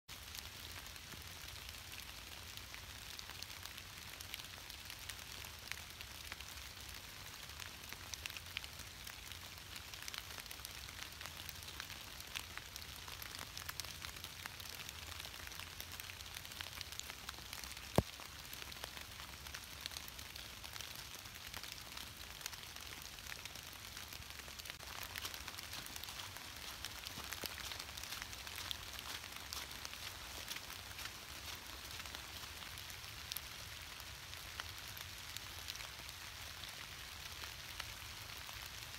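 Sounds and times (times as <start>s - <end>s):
rain pattering on dry leaves: 0.1s - 38.9s.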